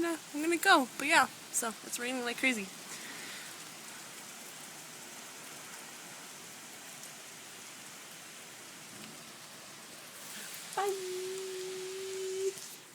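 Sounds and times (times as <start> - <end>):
heavy rain pouring: 0.0 - 12.9.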